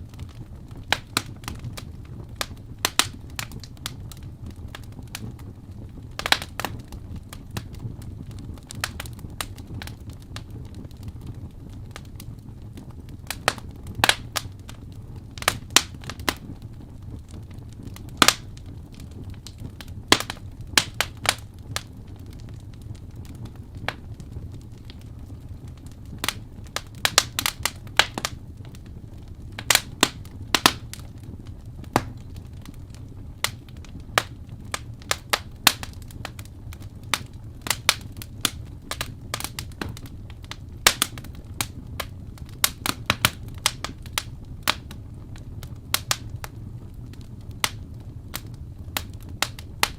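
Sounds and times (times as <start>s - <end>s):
flames rumbling: 0.0s - 49.9s
logs crackling and popping: 0.0s - 49.9s.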